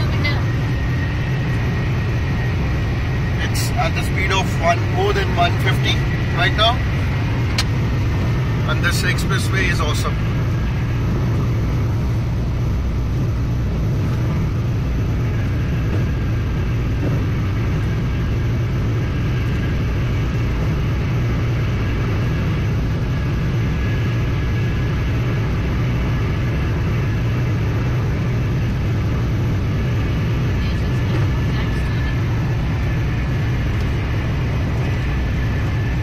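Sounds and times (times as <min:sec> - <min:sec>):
car cabin road and engine noise: 0:00.0 - 0:36.0.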